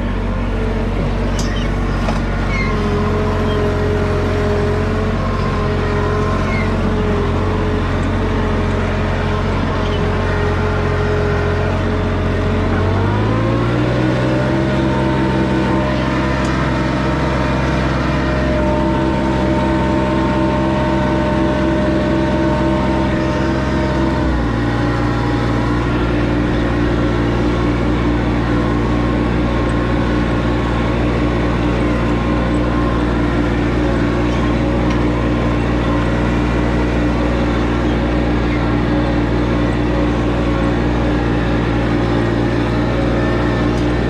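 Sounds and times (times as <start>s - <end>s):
tractor engine running under load: 0.0s - 44.0s.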